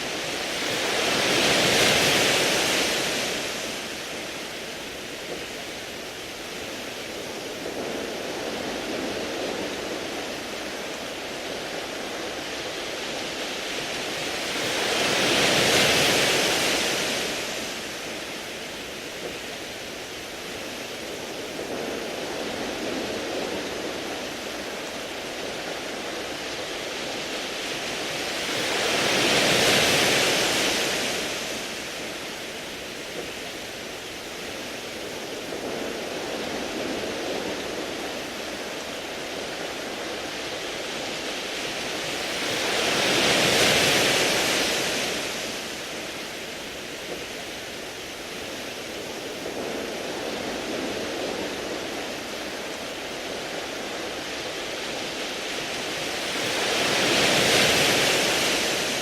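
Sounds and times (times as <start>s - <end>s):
waves washing over pebbles: 0.0s - 59.0s.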